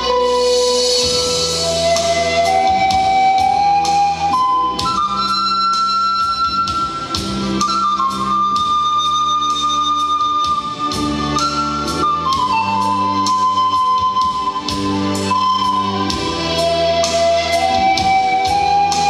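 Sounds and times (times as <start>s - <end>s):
bass: 0.0s - 19.0s
drum beats: 0.0s - 19.0s
pan flute melody: 0.0s - 19.0s.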